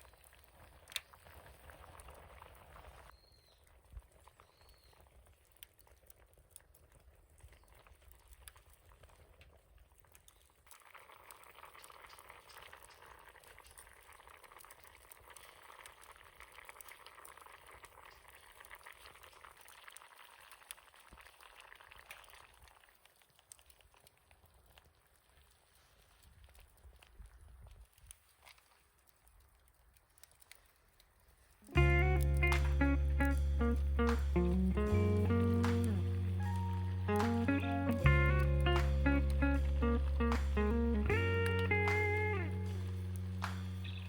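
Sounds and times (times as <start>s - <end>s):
food bubbling and sizzling: 0.0s - 44.0s.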